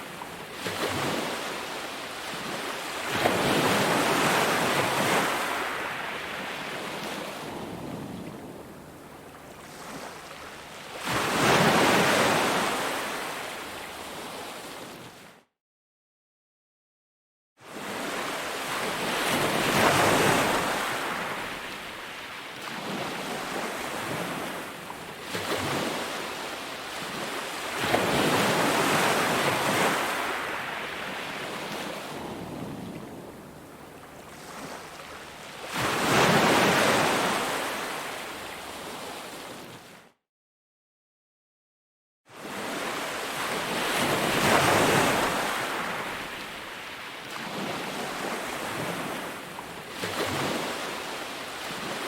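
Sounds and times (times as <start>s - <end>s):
sea waves breaking on beach: 0.0s - 15.1s, 17.6s - 40.0s, 42.3s - 52.0s.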